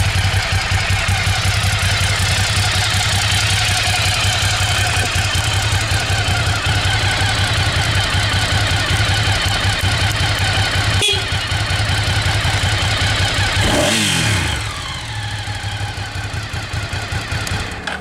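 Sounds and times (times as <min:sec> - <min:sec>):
engine switching off: 0:00.0 - 0:18.0
motorcycle engine idling: 0:00.0 - 0:18.0.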